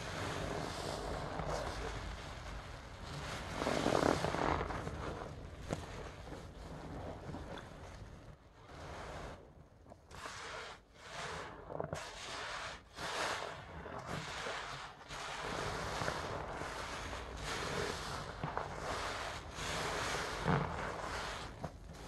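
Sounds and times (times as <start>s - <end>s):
soapy sponge squishing: 0.0s - 7.5s, 10.2s - 22.0s.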